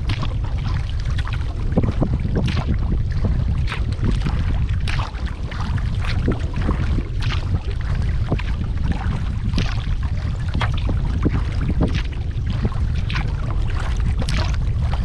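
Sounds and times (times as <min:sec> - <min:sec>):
water splashing and dripping: 0:00.0 - 0:15.0
wind rumbling on microphone: 0:00.0 - 0:15.0.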